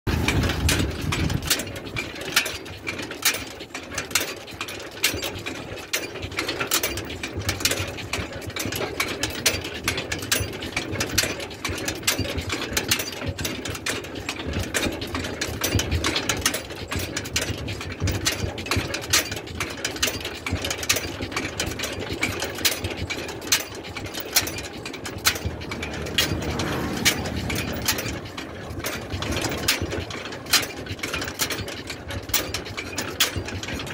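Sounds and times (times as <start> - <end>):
cart frame and chain rattling: 0.1 - 33.9
cart wheels rolling on pavement: 0.1 - 33.9.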